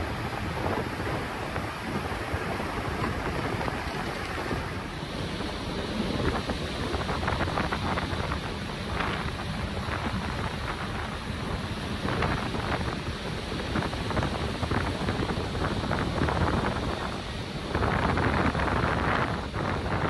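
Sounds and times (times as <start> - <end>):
steady low rumble: 0.0 - 20.0
water rushing past a hull: 0.0 - 20.0
wind buffeting the microphone: 0.0 - 20.0.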